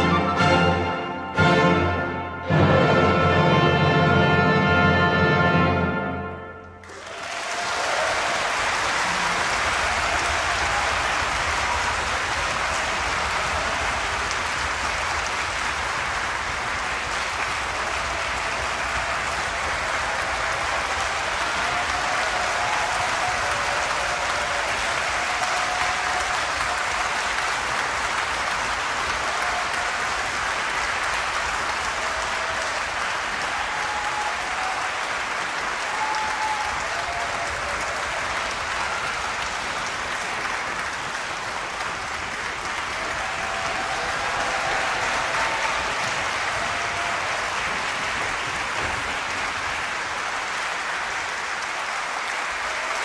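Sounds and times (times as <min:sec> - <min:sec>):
audience applauding: 0:06.6 - 0:53.0.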